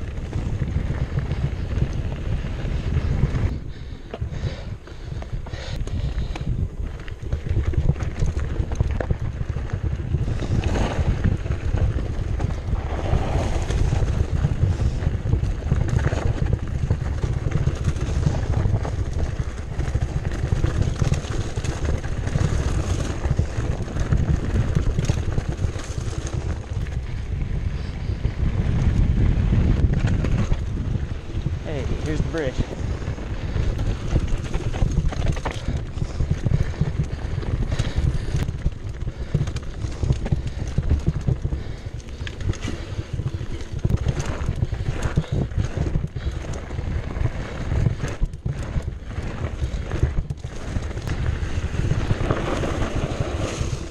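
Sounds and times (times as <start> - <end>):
bike rattling: 0.0 - 53.9
wind buffeting microphone: 0.0 - 53.9.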